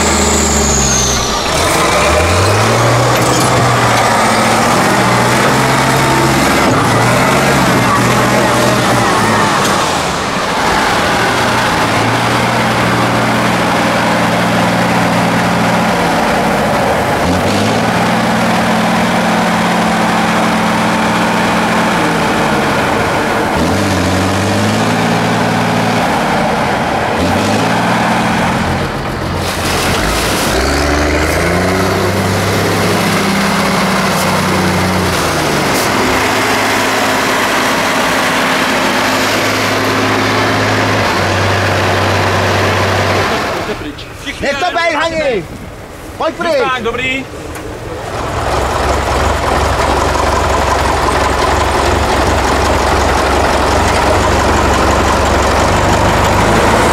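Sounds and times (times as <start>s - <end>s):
diesel truck engine working hard: 0.0s - 56.9s.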